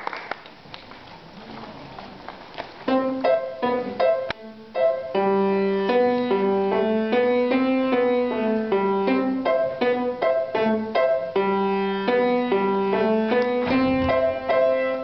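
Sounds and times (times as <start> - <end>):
grand piano playing: 2.8 - 15.0.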